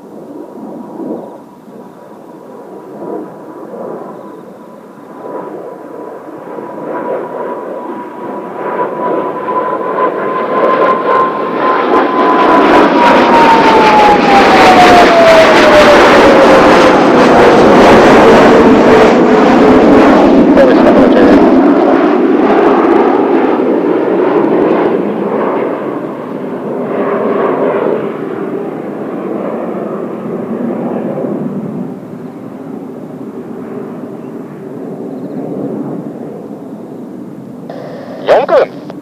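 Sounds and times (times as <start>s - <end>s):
jet aircraft roar flying over: 0.0s - 39.0s
jet engine whine: 0.0s - 39.0s.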